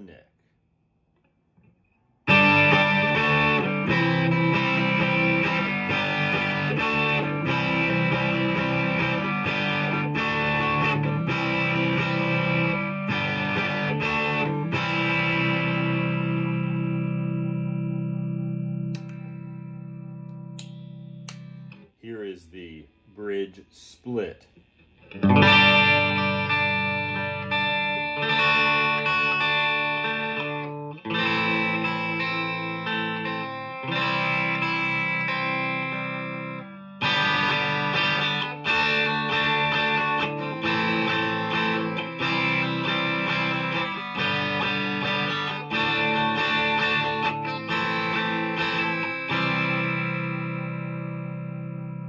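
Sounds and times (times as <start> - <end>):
overdriven electric guitar chords: 2.2 - 21.9, 25.0 - 52.0.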